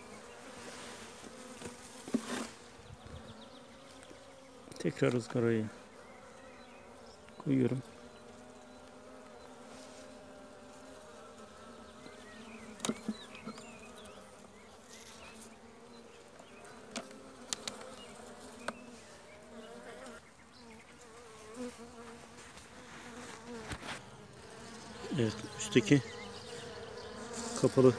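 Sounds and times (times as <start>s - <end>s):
bees buzzing: 0.0s - 27.9s.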